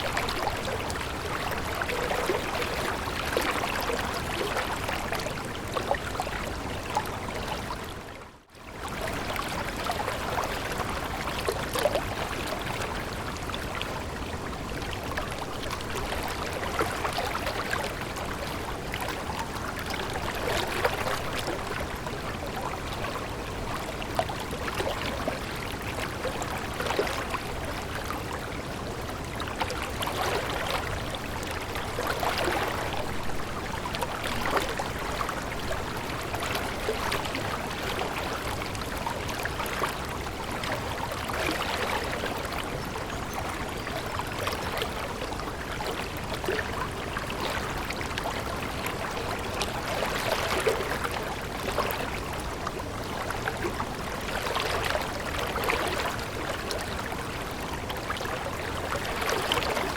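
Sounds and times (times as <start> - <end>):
stream flowing over stones: 0.0 - 8.1, 8.7 - 59.9.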